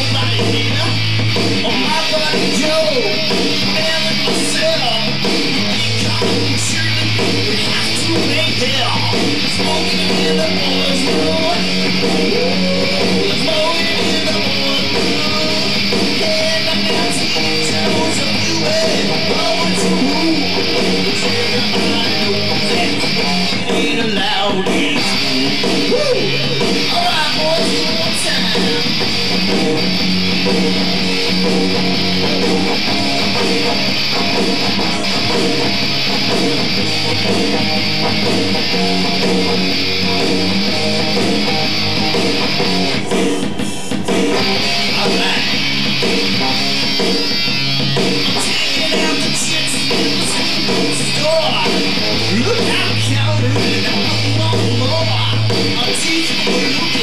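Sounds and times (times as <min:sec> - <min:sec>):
loud electric guitars: 0:00.0 - 0:57.0.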